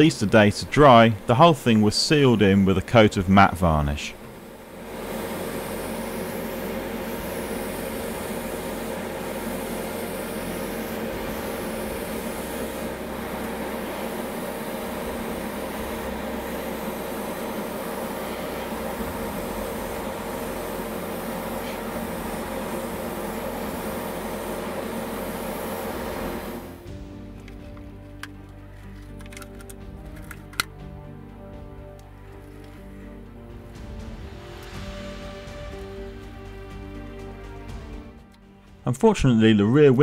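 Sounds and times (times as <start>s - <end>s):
airbrush spraying hiss: 0.0s - 29.1s, 32.3s - 38.2s
extractor fan humming: 0.0s - 39.6s.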